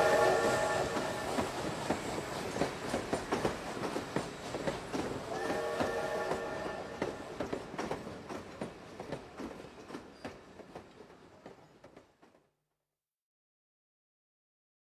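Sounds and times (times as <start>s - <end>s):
train wheels clacking on rail joints: 0.0s - 12.4s.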